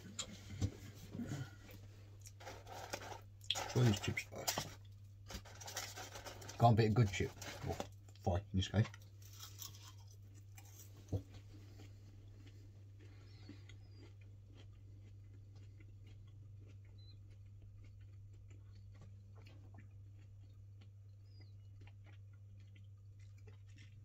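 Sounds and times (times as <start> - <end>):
steady low hum: 0.0 - 24.0
chewing chips: 1.2 - 24.0.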